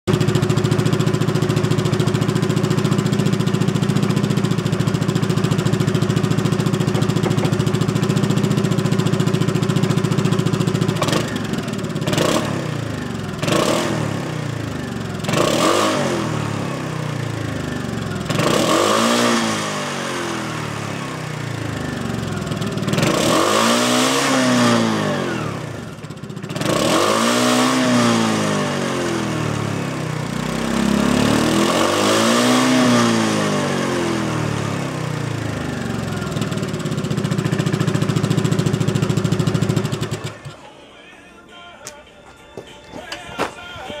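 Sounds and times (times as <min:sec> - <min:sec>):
scooter engine idling and revving: 0:00.0 - 0:40.8.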